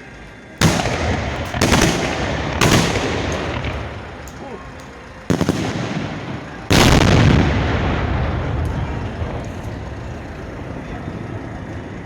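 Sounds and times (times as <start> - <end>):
firework blast with rumbling tail: 0.6 - 4.4, 5.2 - 12.0.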